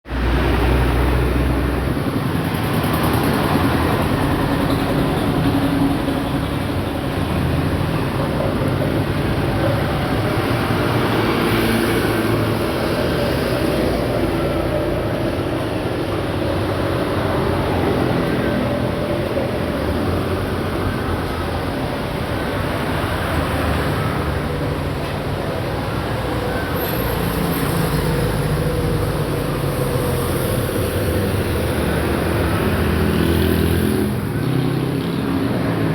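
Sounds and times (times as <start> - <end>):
traffic on wet road: 0.1 - 35.9.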